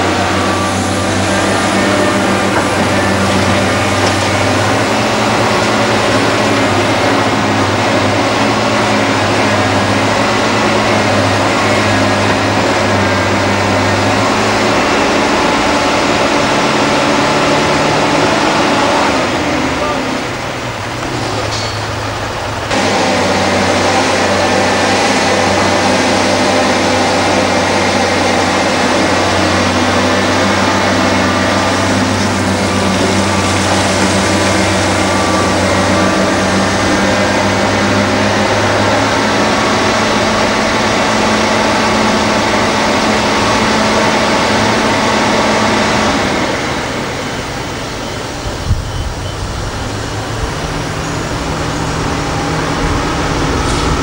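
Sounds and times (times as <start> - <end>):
heavy diesel engines drone: 0.0 - 54.0.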